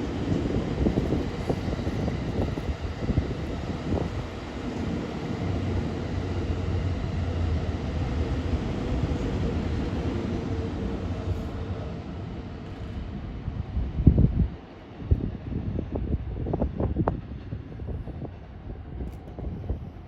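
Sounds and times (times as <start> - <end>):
electric train passing: 0.0 - 20.0
wheels rumbling on rail: 0.0 - 20.0.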